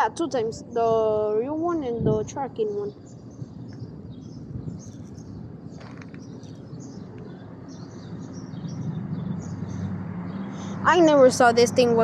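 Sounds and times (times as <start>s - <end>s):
steady low rumble: 0.0s - 10.0s
birds chirping: 0.0s - 12.0s.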